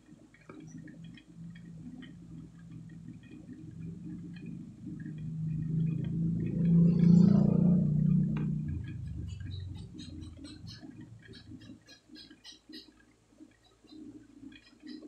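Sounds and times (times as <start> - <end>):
electrical hum from speaker: 0.0 - 15.0.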